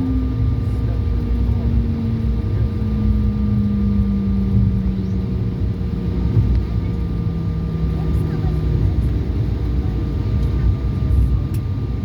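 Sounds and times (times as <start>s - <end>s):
hum with falling pitch: 0.0s - 9.8s
airliner engine rumble: 0.0s - 12.0s.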